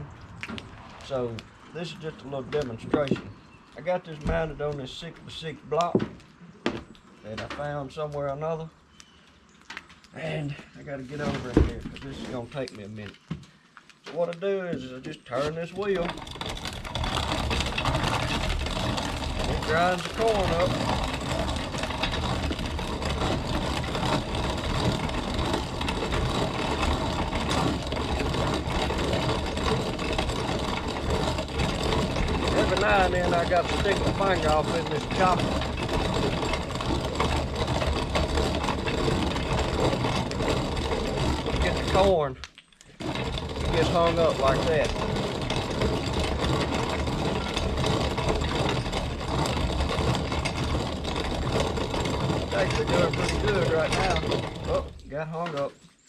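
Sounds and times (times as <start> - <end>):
hand-cranked grinder crushing corn: 0.0 - 56.0.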